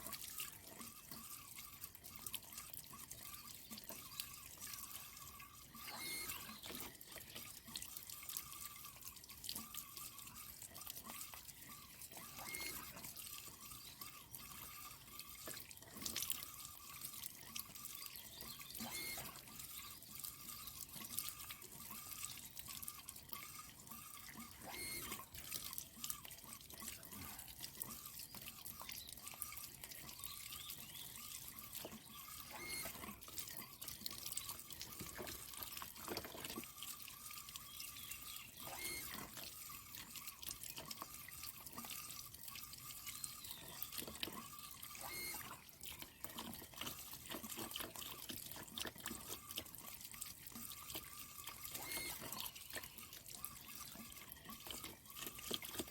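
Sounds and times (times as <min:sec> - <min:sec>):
small clicks and splashes: 0:00.0 - 0:55.9
water running and dripping: 0:00.0 - 0:55.9.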